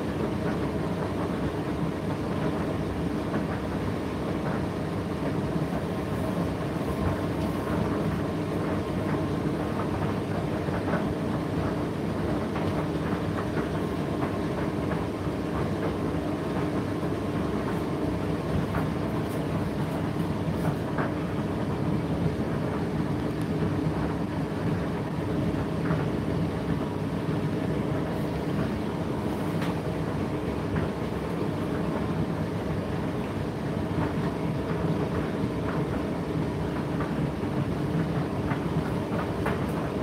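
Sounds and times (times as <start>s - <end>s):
tumble dryer motor hum: 0.0s - 40.0s.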